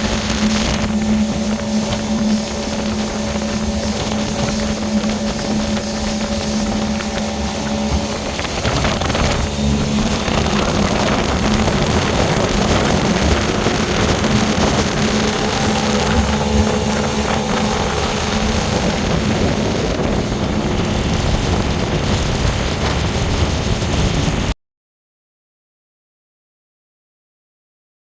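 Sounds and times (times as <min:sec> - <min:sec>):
motorboat engine running: 0:00.0 - 0:24.5
rush of wind and water: 0:00.0 - 0:24.6.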